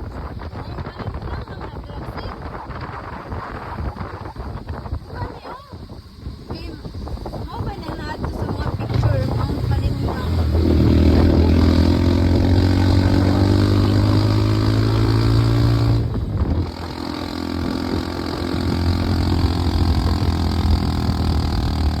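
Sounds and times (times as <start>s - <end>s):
vehicle engine running: 3.5s - 22.0s.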